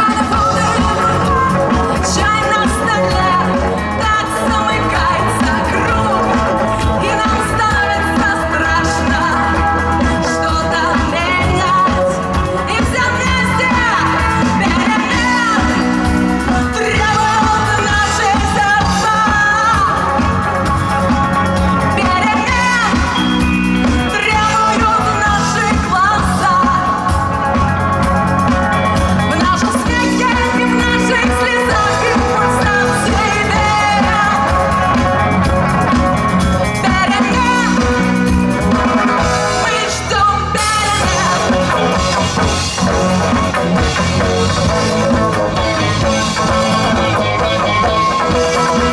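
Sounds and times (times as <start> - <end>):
live rock band playing: 0.0 - 48.9
person singing: 0.0 - 48.9.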